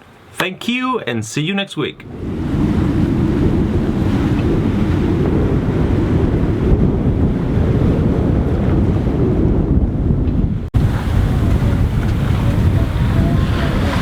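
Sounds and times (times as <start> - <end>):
waves washing: 0.0 - 8.8, 10.7 - 14.0
wind buffeting microphone: 2.0 - 14.0.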